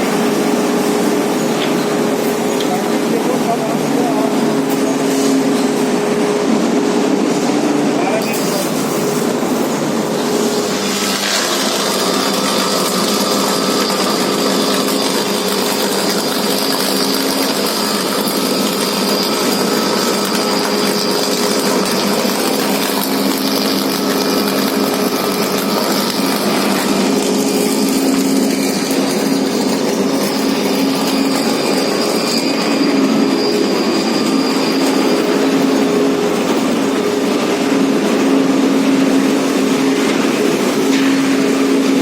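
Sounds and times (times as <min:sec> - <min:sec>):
electric arc furnace roaring: 0:00.0 - 0:42.0.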